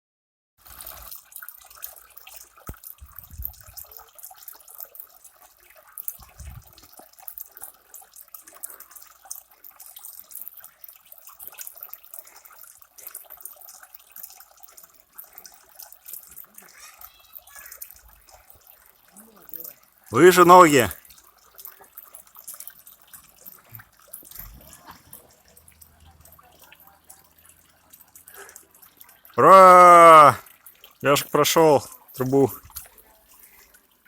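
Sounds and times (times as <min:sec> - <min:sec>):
small stream trickling: 0:00.6 - 0:34.0.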